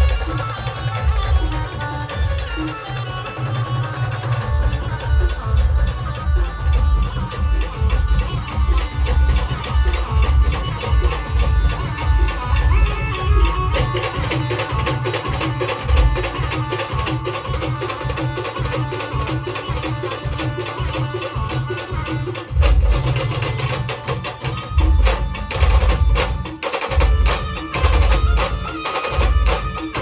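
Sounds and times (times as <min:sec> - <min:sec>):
heavy bass drum: 0:00.0 - 0:02.7, 0:03.8 - 0:17.6, 0:21.4 - 0:30.0
fast steady drumming: 0:00.0 - 0:30.0
wind instrument melody: 0:00.0 - 0:30.0.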